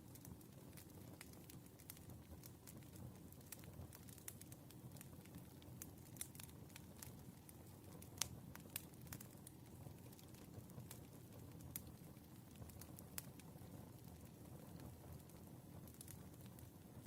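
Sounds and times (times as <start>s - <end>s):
firewood crackling and popping: 0.0s - 17.0s
low rumble of fire: 0.0s - 17.0s.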